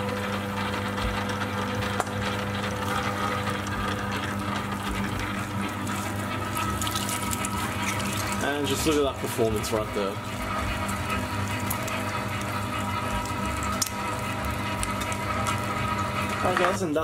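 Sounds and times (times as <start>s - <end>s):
electric meat mincer motor hum: 0.0s - 17.0s.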